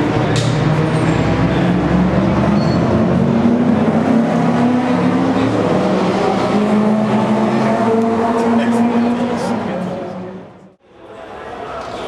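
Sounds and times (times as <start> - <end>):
race car engines revving: 0.0 - 10.8.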